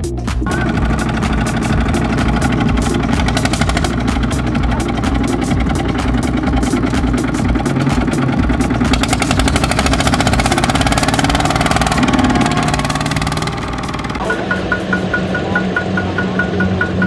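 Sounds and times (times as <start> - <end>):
diesel engine chugging: 0.4 - 17.0.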